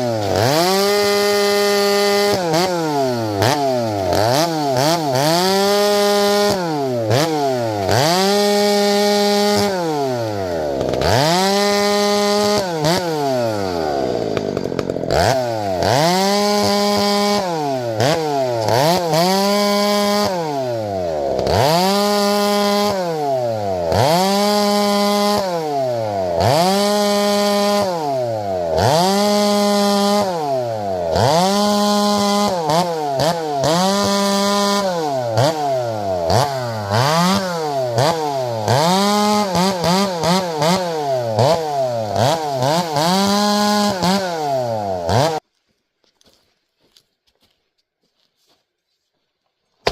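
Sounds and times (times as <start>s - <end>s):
chainsaw revving and idling: 0.0s - 45.6s.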